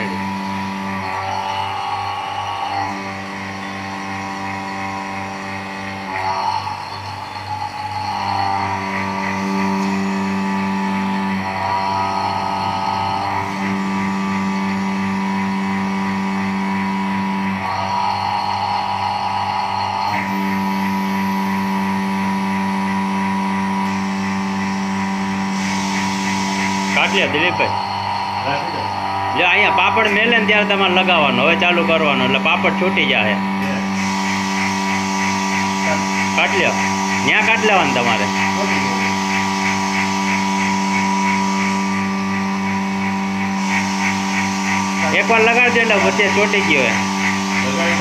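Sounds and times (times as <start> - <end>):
vacuum pump motor hum: 0.0 - 48.0.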